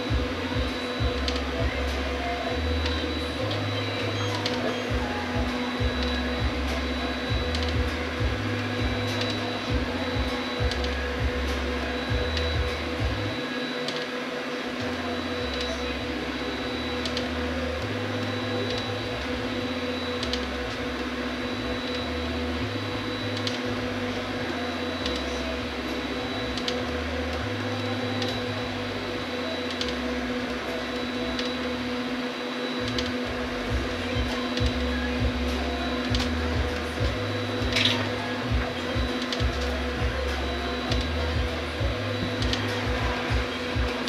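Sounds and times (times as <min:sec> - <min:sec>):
printer motor whirring: 0:00.0 - 0:44.0.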